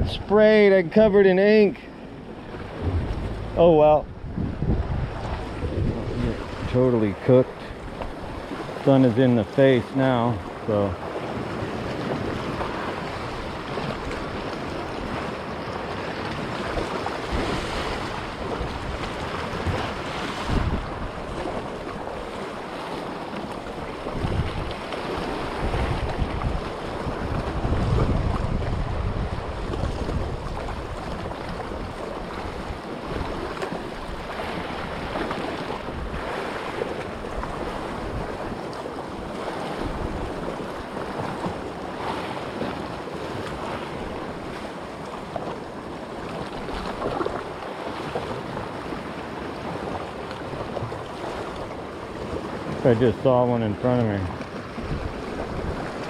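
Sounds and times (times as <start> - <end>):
wind buffeting microphone: 0.0 - 0.4, 2.0 - 8.8, 10.4 - 52.8, 54.6 - 56.0
sea waves: 0.0 - 56.0.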